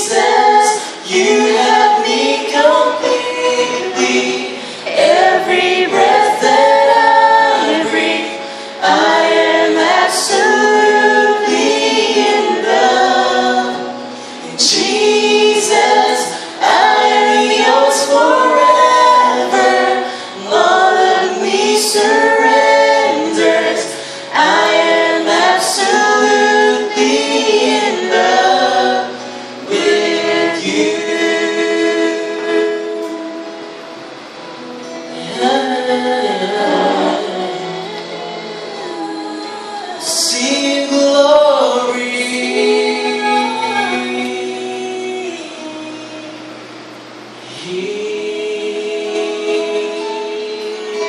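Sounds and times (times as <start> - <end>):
acoustic guitar: 0.0 - 51.0
man and woman singing duet: 0.0 - 51.0.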